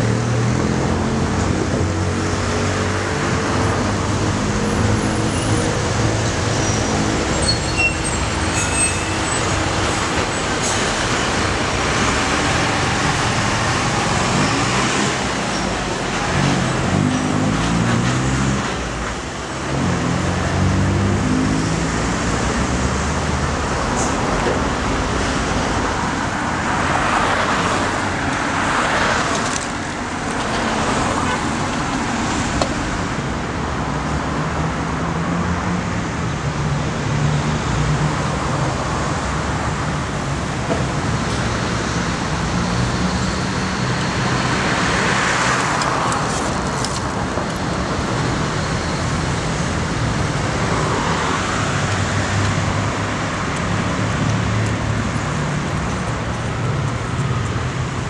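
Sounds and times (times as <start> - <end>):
passing cars: 0.0 - 58.0.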